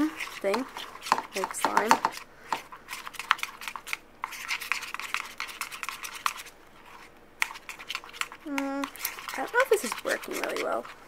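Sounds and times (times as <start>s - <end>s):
spoon scraping a bowl: 0.0s - 11.0s.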